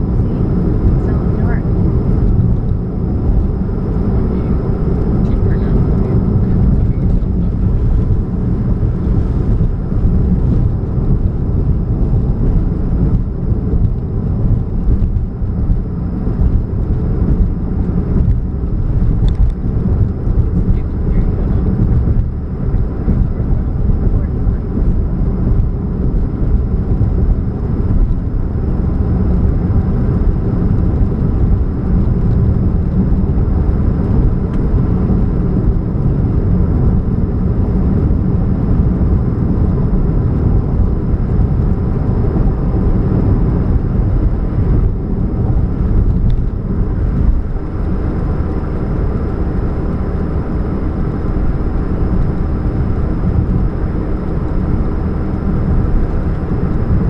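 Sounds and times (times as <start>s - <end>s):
car engine rumble: 0.0s - 57.0s
hum: 0.0s - 57.0s
road noise: 0.0s - 57.0s.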